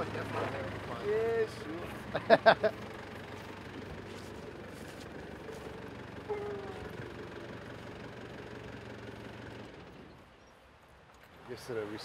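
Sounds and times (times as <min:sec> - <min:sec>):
engine idling: 0:00.0 - 0:10.4.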